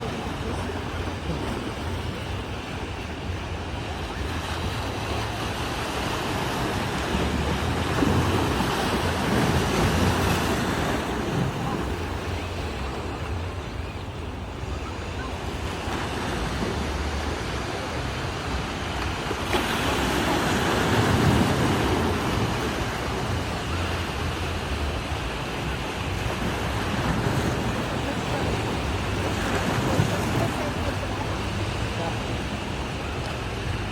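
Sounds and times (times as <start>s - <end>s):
ocean surf washing onto beach: 0.0s - 33.9s
wind rumbling on microphone: 0.0s - 33.9s.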